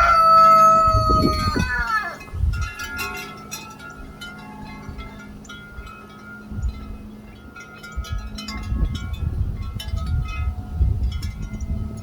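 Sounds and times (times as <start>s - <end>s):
chimes ringing: 2.1s - 12.0s.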